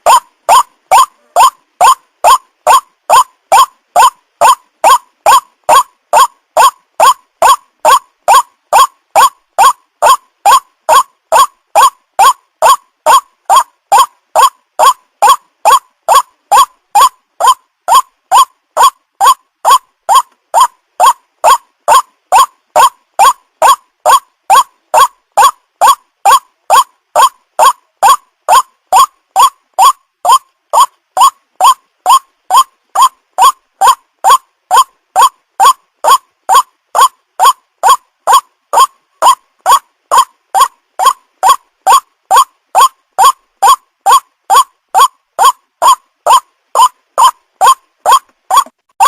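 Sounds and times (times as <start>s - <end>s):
waterhen calling: 0.0s - 48.7s.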